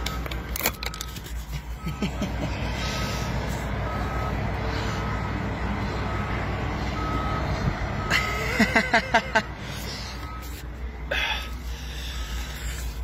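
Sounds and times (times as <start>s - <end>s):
reversing alarm beeping: 0.0s - 1.2s, 1.8s - 13.0s.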